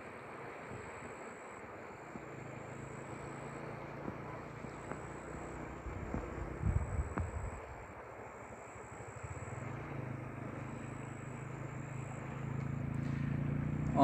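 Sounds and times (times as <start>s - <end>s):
low engine hum: 0.0s - 14.0s
steady rushing noise: 0.0s - 14.0s.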